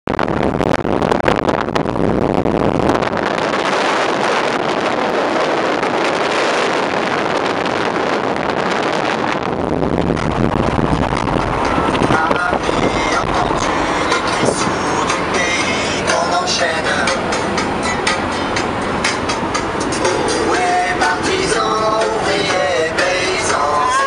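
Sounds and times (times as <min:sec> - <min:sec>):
car road and wind noise: 0:00.0 - 0:24.0
wind buffeting microphone: 0:00.1 - 0:24.0.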